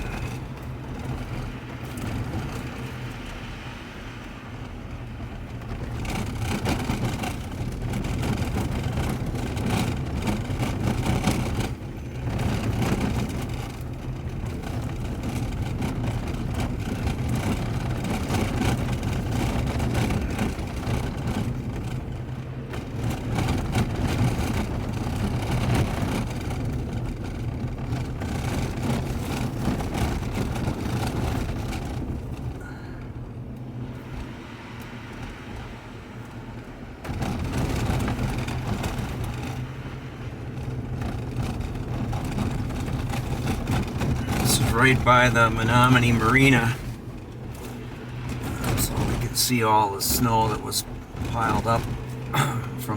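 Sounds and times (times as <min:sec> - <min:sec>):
car driving on road: 0:00.0 - 0:52.9.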